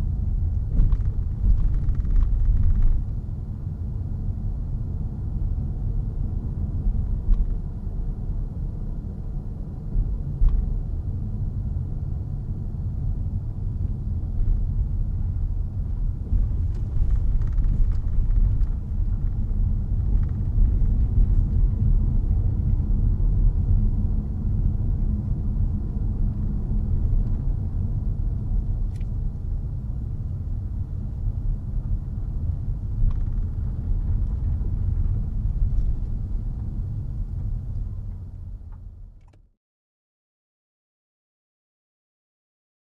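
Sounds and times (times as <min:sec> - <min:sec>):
car driving rumble from inside: 0:00.0 - 0:39.5.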